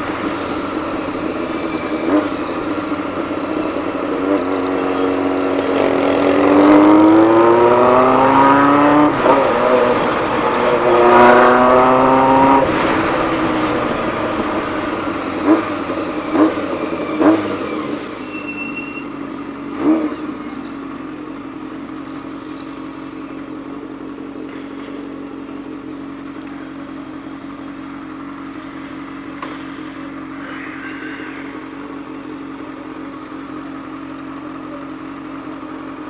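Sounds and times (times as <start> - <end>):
motorcycle engine accelerating: 0.0 - 18.4, 19.0 - 36.0
engine throttle blips: 0.0 - 36.0.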